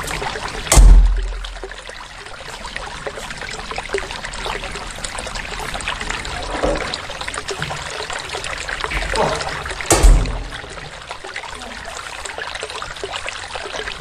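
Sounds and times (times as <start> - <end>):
stream water babbling: 0.0 - 14.0.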